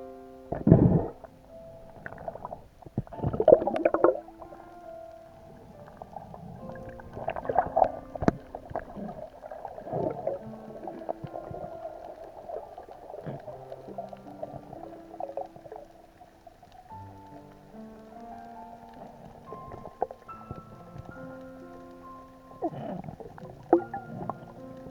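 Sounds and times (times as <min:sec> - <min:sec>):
soft background music: 0:00.0 - 0:24.9
underwater gurgling and bubbling: 0:00.0 - 0:24.9.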